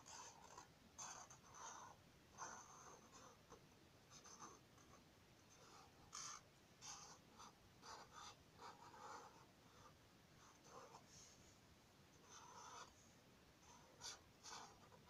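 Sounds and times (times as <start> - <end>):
marker drawing on paper: 0.0 - 11.5, 12.2 - 15.0.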